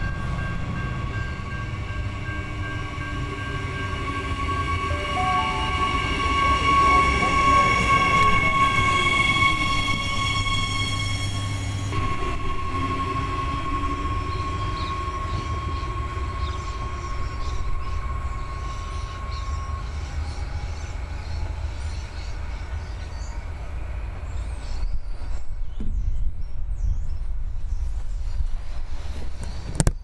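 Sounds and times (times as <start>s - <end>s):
electric train whining: 0.0s - 25.3s
train low rumble: 0.0s - 29.7s.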